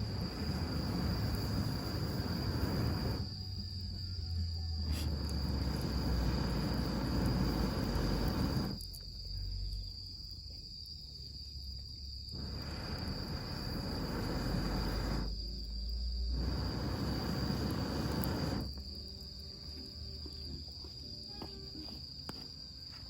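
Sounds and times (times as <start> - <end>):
crickets chirring: 0.0 - 23.0
outdoor background noise: 0.0 - 23.0.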